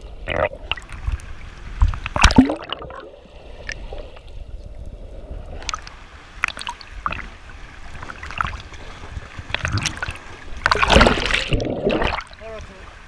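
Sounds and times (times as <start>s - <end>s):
water sloshing and splashing: 0.0s - 4.8s, 5.5s - 13.0s
underwater clicks and bubbling: 0.0s - 12.4s.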